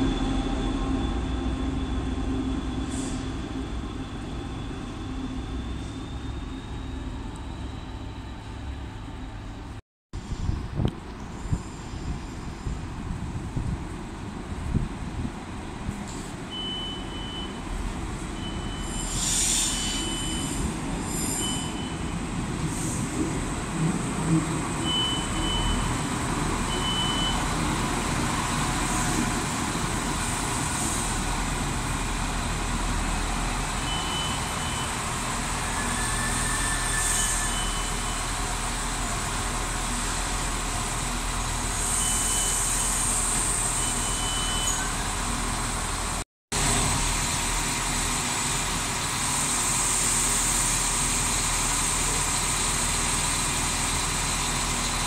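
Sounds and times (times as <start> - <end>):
diesel railcar engine hum: 0.0 - 55.0.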